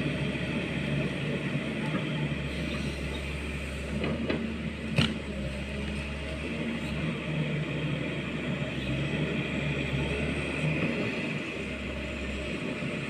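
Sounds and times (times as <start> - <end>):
excavator engine humming: 0.0 - 13.0.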